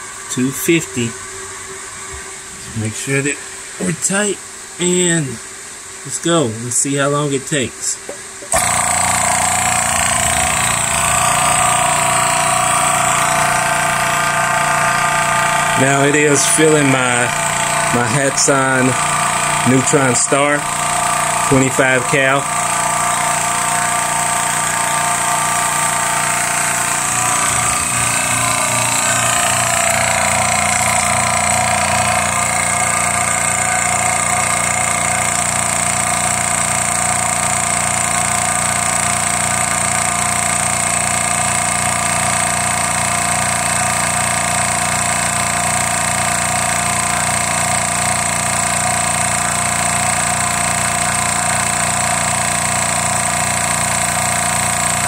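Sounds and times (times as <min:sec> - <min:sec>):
electric air compressor pulsing: 0:08.2 - 0:55.0.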